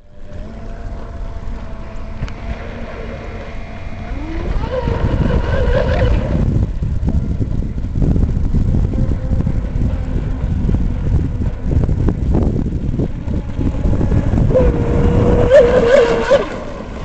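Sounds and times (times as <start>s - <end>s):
rc boat motor whine: 0.0s - 17.0s
wind noise on microphone: 0.0s - 17.0s.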